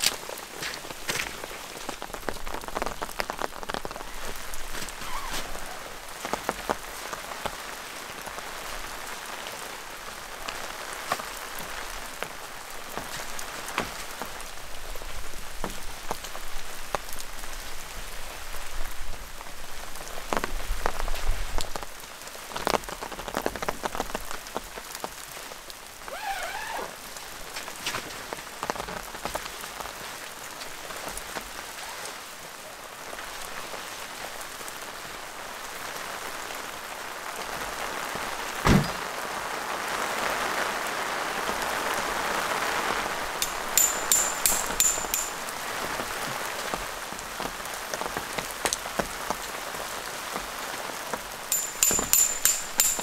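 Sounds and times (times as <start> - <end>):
sharp ticks of raindrops: 0.0 - 5.1, 5.9 - 26.2, 27.0 - 53.0
steady rain falling: 0.0 - 53.0.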